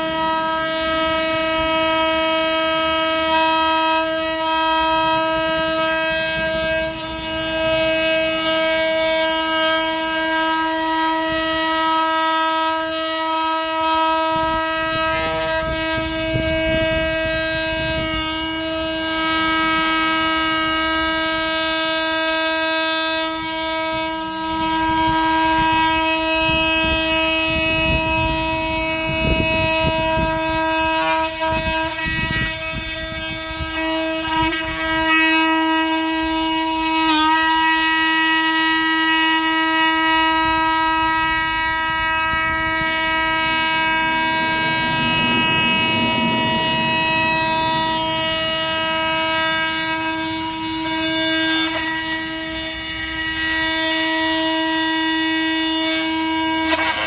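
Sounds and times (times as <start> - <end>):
oscillating multitool whine: 0.0 - 57.0.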